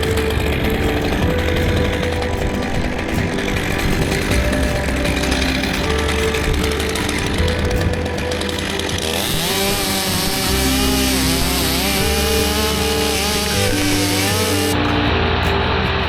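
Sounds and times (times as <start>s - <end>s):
chainsaw cutting wood: 0.0s - 14.9s
background music: 0.0s - 16.0s.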